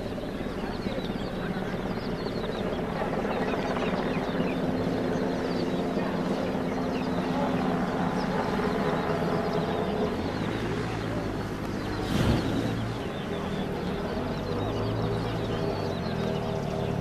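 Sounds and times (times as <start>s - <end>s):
model aircraft motor humming: 0.0s - 17.0s.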